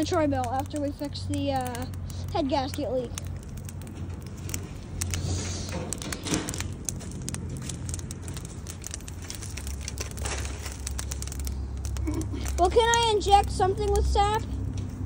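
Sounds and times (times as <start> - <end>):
sharp pops and snaps: 0.0 - 15.0
steady low rumble: 0.0 - 15.0
wood fire crackling: 0.0 - 15.0.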